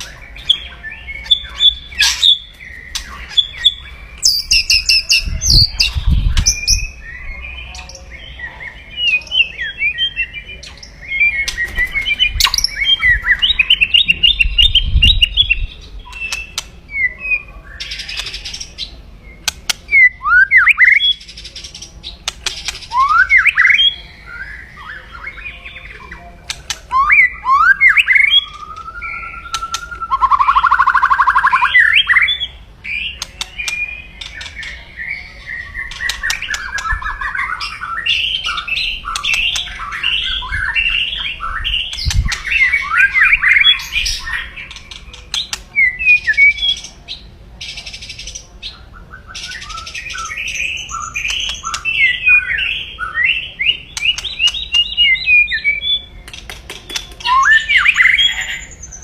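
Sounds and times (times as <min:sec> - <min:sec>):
bird singing aggressive song: 0:00.0 - 0:59.0.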